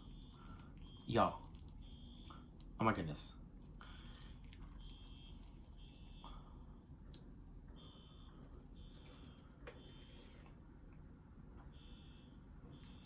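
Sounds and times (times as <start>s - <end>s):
faint electronic alarm beeping: 0.0s - 13.0s.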